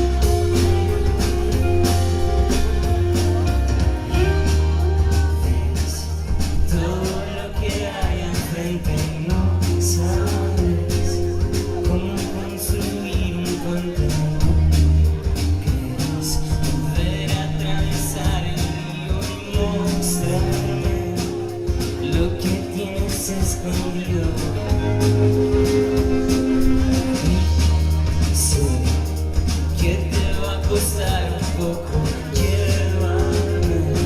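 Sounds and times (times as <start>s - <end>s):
drums hitting steadily: 0.0s - 34.0s
live band music: 0.0s - 34.0s.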